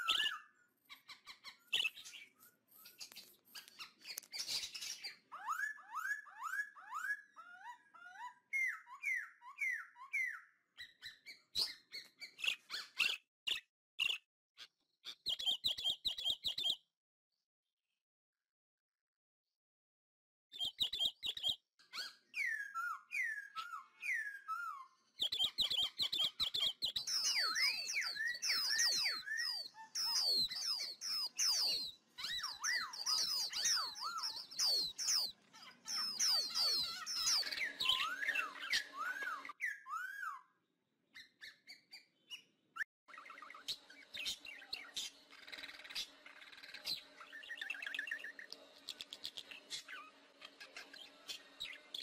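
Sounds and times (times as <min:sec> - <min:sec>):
birds chirping and calling: 0:00.0 - 0:16.8, 0:20.6 - 0:40.5, 0:41.1 - 0:42.5, 0:43.1 - 0:52.0.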